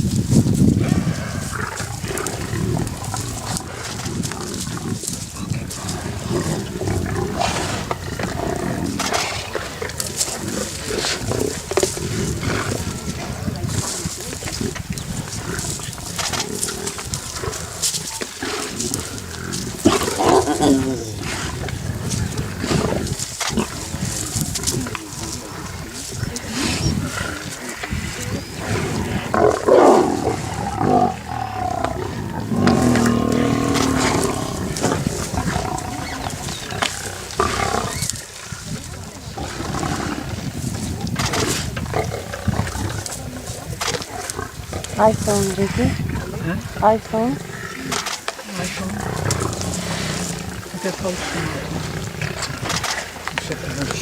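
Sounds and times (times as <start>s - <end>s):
lions growling: 0.4s - 54.0s.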